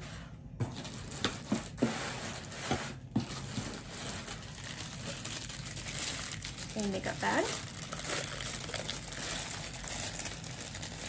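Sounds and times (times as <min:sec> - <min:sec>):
plastic wrapping crinkling: 0:00.6 - 0:11.0.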